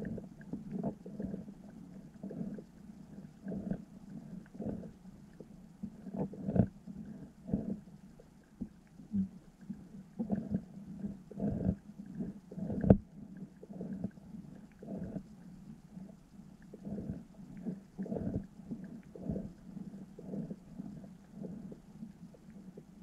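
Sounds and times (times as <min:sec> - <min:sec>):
underwater low thumps and rumbles: 0:00.0 - 0:23.0.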